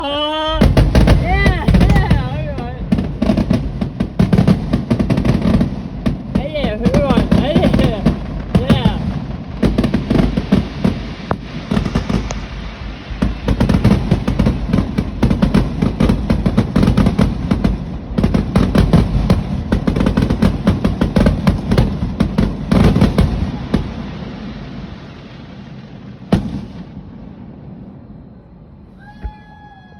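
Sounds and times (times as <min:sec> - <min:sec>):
fireworks crackling and banging: 0:00.0 - 0:29.9.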